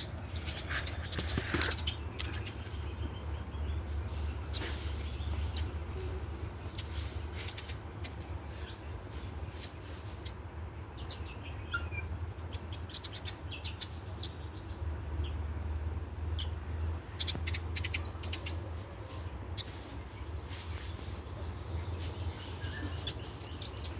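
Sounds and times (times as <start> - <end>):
birds chirping: 0.0 - 23.9
steady low hum: 0.0 - 23.9.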